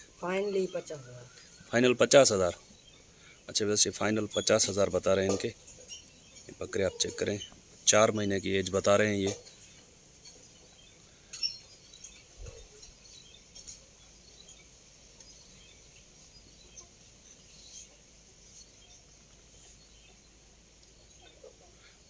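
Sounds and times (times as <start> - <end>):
faint high chirps: 0.0 - 22.0
faint steady hiss: 0.0 - 22.0.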